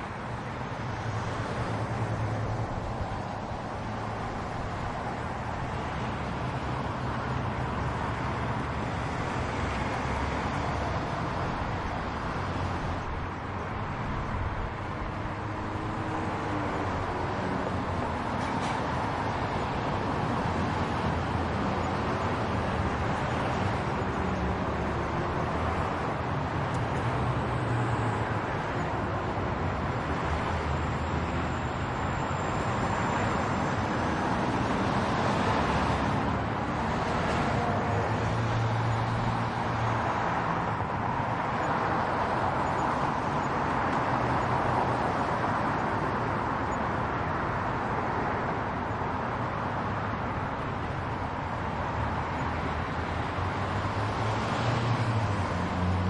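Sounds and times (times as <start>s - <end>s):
heavy vehicle engine hum: 0.0s - 56.0s
passing cars: 0.0s - 56.0s.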